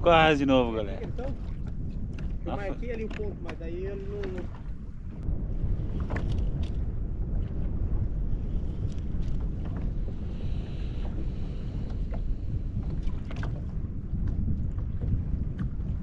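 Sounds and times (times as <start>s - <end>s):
water noise: 0.0s - 16.0s
wind rumble on microphone: 0.0s - 16.0s.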